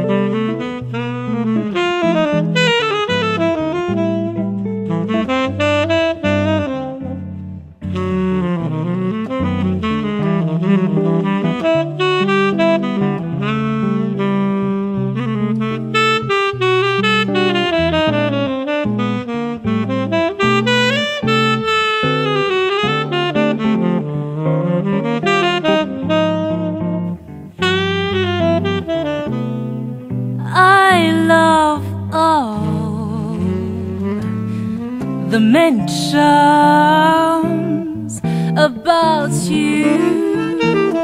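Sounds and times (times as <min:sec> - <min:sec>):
jazz instrumental: 0:00.0 - 0:41.0.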